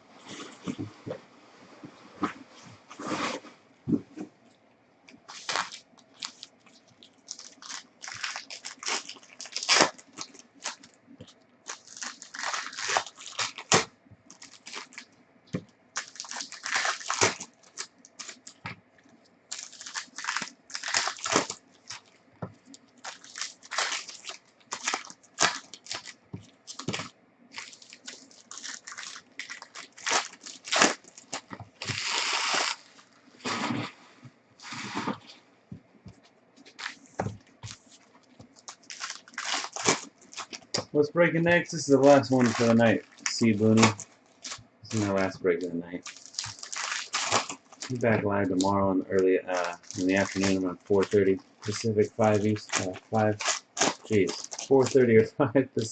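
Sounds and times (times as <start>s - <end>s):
card pack wrappers crinkling: 5.2s - 33.8s, 36.6s - 41.0s, 41.6s - 55.9s.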